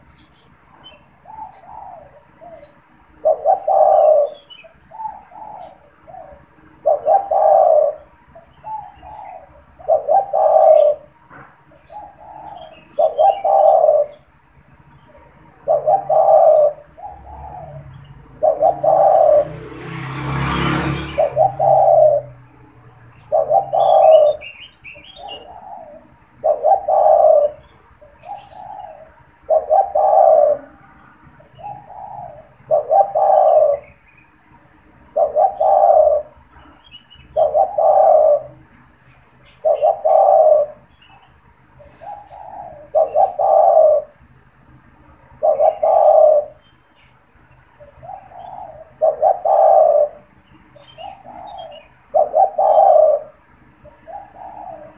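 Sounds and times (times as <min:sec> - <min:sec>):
dove cooing: 0:00.0 - 0:44.3, 0:45.0 - 0:54.9.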